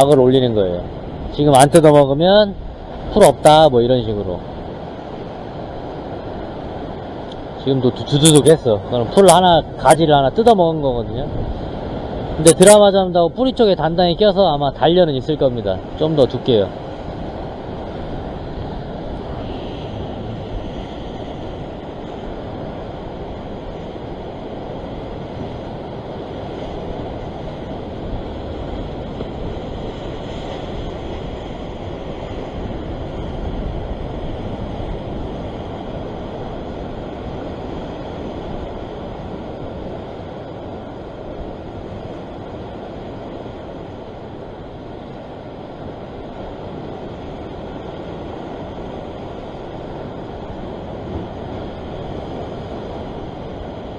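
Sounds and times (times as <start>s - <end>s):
ocean swell washing over rocks: 0.0s - 53.9s
wind rumbling on microphone: 0.0s - 53.9s.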